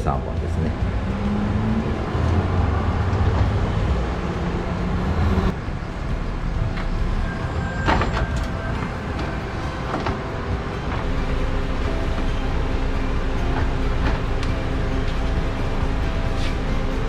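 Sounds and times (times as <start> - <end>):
low mechanical rumble: 0.3 - 17.0.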